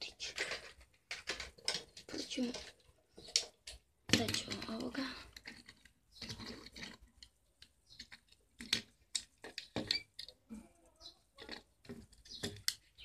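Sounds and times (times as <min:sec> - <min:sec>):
toy car clicking on wood: 0:00.0 - 0:13.0.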